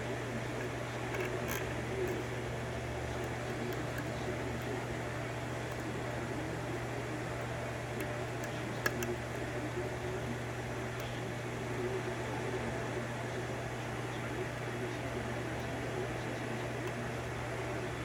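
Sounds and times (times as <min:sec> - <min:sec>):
low electrical hum: 0:00.0 - 0:18.0
room noise hiss: 0:00.0 - 0:18.0.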